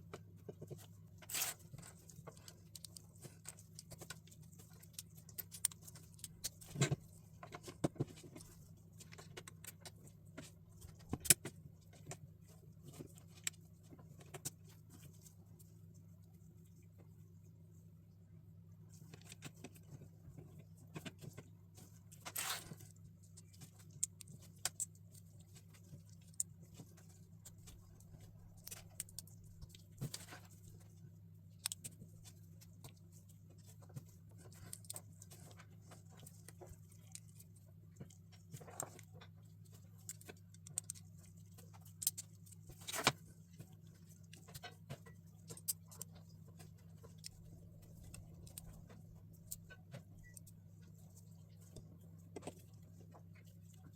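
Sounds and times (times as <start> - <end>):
faint low hum: 0.0 - 53.9.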